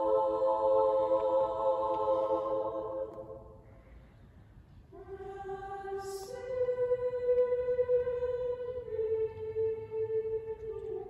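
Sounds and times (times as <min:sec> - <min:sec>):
choir of high voices singing: 0:00.0 - 0:03.7, 0:04.9 - 0:11.0.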